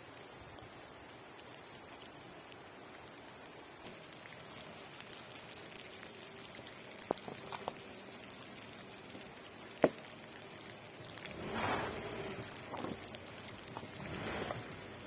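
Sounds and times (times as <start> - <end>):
steady rain: 0.0 - 15.0
drops ticking on a surface: 1.4 - 11.3, 12.3 - 14.7.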